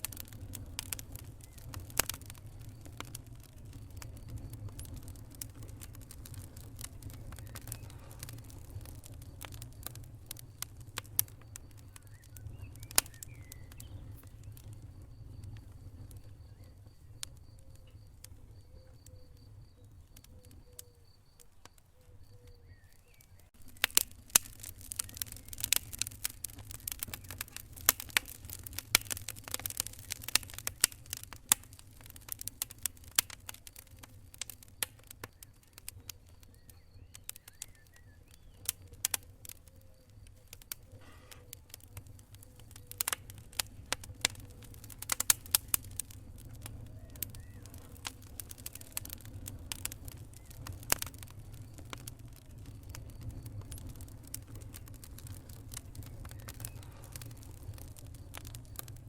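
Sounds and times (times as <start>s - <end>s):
fire crackling and popping: 0.0s - 59.0s
fire flame rumble: 0.0s - 59.0s.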